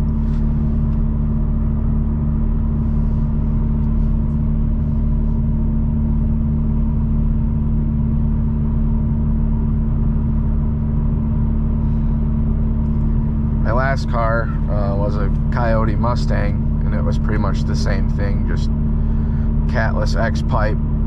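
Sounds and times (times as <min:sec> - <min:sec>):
loud exhaust drone: 0:00.0 - 0:21.0.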